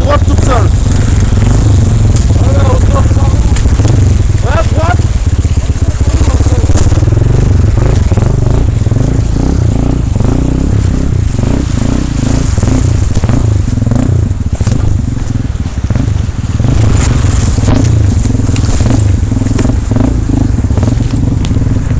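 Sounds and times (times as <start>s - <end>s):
dirt bike engine running low revs: 0.0s - 21.9s.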